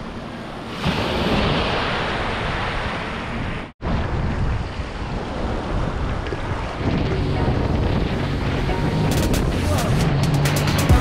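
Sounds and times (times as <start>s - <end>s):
wind buffeting microphone: 0.7s - 10.5s.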